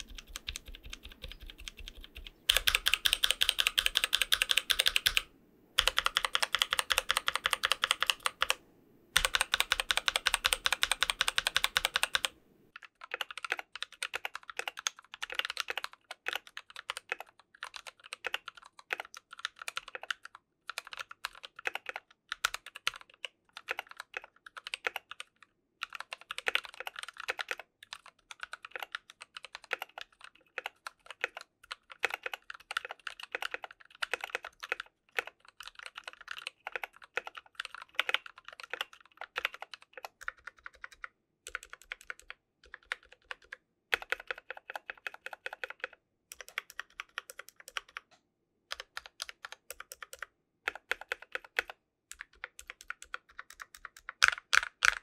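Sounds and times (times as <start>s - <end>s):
mechanical keyboard typing: 0.0s - 8.6s, 9.2s - 55.0s.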